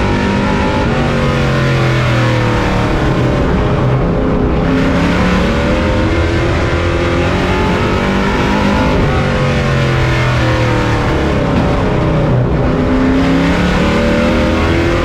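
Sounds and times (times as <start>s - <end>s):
race truck engine revving: 0.0s - 15.0s.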